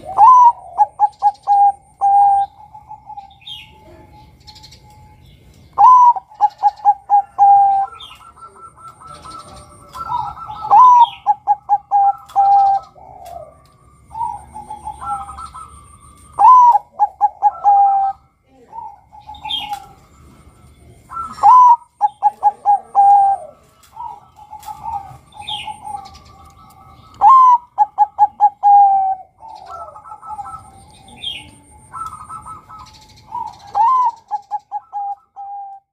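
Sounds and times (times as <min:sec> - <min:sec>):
dove cooing: 0:00.0 - 0:35.9
small birds chirping: 0:00.0 - 0:35.9.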